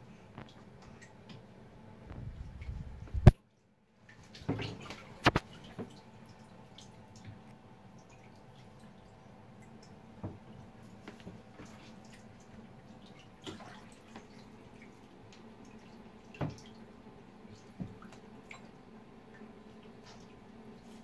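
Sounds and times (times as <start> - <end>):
faint steady hum: 0.0 - 21.0
water splashing and dripping: 4.0 - 21.0.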